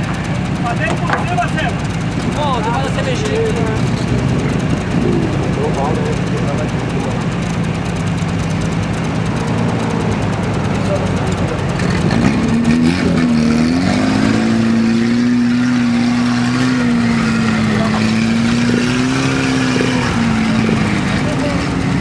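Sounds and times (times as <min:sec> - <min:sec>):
engine under load: 0:00.0 - 0:22.0.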